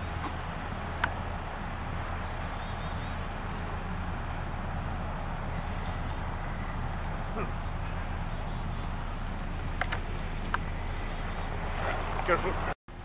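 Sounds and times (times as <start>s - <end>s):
drilling rig machinery drone: 0.0s - 13.0s.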